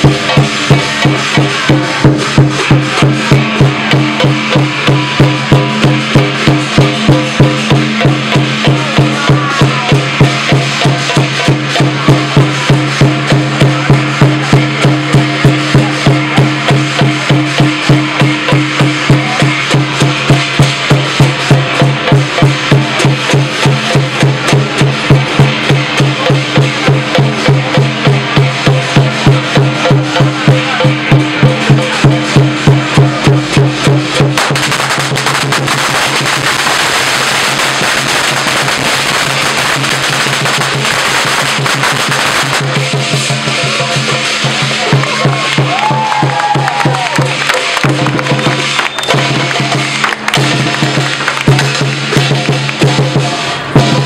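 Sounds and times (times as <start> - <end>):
cymbals and gong ringing: 0.0 - 54.0
drum beaten steadily: 0.0 - 54.0.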